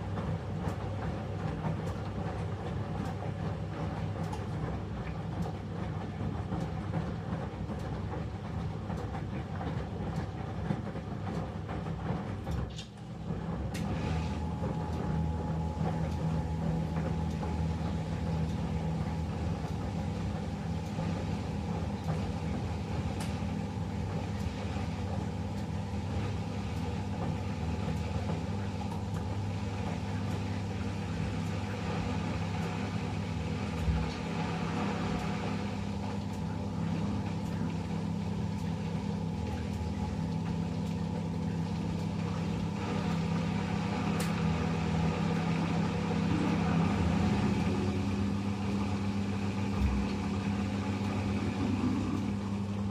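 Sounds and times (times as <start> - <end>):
washing machine humming: 0.0 - 52.9.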